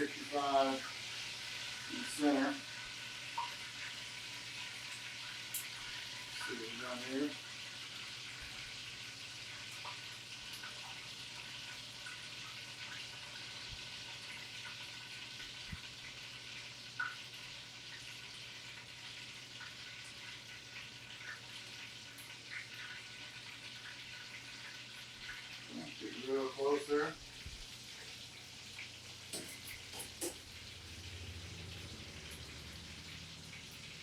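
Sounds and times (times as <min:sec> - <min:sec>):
chicken sizzling with pops: 0:00.0 - 0:34.0.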